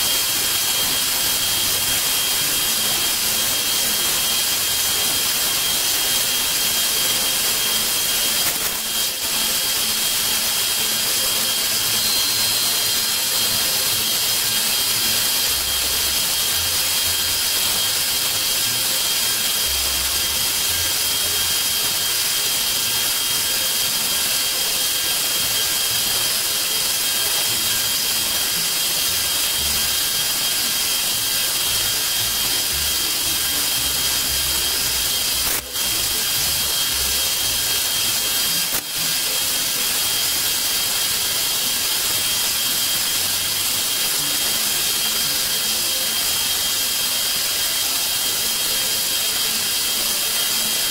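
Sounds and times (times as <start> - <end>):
air nozzle hissing: 0.0 - 50.9
high whine: 0.0 - 50.9
milling machine cutting metal: 0.0 - 50.9.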